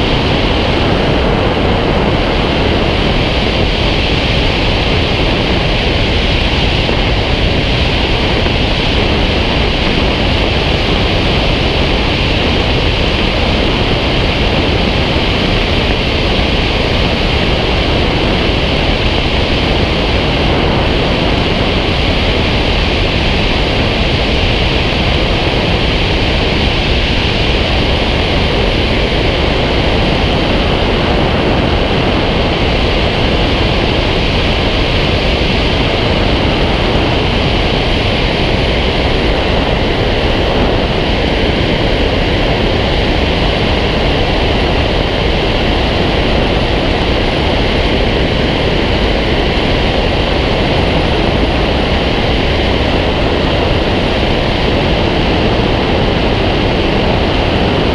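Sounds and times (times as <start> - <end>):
airflow rushing over camera: 0.0 - 57.9.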